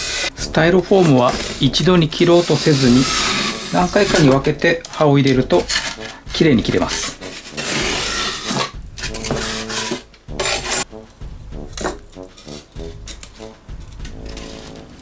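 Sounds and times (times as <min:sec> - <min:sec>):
knife cutting foam board: 0:00.0 - 0:04.5, 0:05.4 - 0:15.0.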